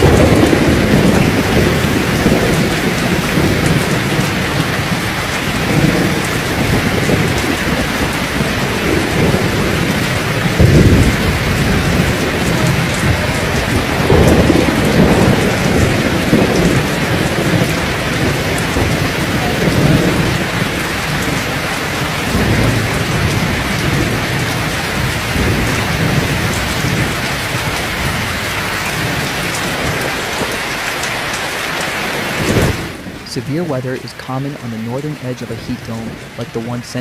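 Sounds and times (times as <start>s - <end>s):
rolling thunder: 0.0s - 33.3s
heavy rain pouring: 0.0s - 37.0s.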